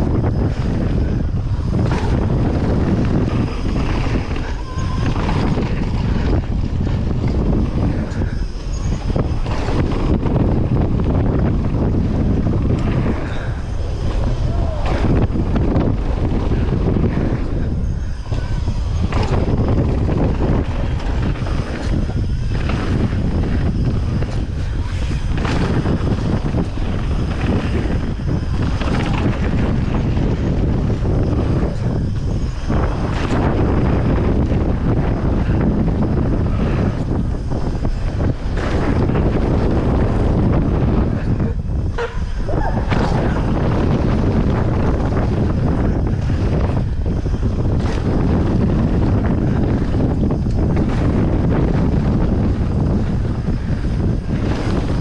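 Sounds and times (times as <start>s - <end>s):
bike rattling and knocking: 0.0s - 55.0s
wind on microphone: 0.0s - 55.0s.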